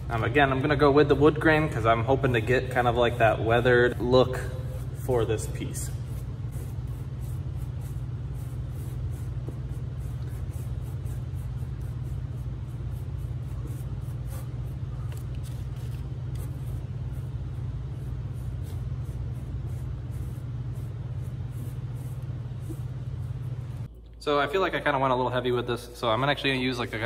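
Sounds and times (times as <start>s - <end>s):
steady low hum: 0.0s - 27.0s
paintbrush swishing over wood: 1.4s - 23.9s.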